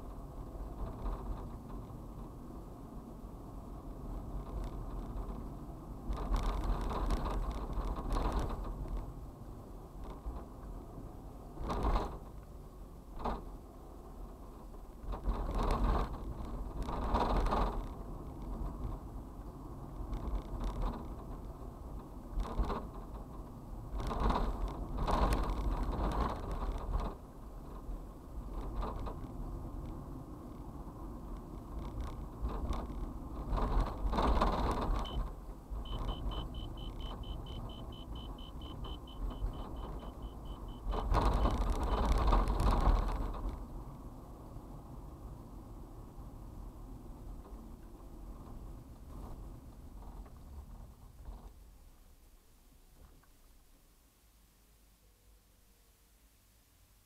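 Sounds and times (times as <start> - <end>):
vehicle road noise rumble: 0.0 - 57.0.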